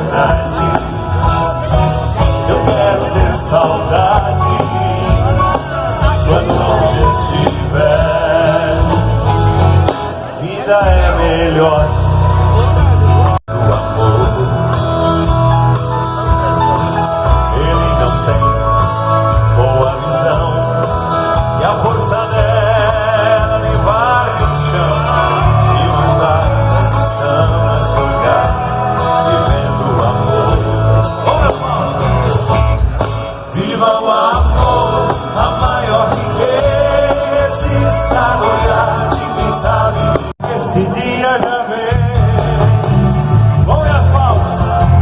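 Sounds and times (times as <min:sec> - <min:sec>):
person singing: 0:00.0 - 0:14.8, 0:17.2 - 0:32.6, 0:33.5 - 0:43.3
live band playing pop music: 0:00.0 - 0:45.0
steady bass line: 0:00.0 - 0:45.0.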